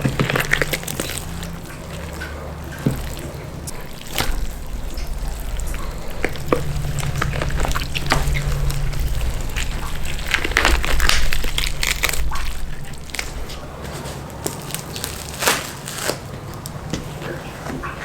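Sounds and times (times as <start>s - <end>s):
low steady rumble: 0.0s - 15.8s
food crunching and crackling: 0.0s - 18.0s.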